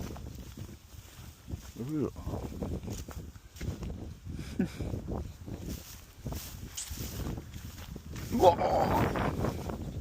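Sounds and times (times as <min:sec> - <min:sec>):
footsteps walking: 0:00.0 - 0:10.0.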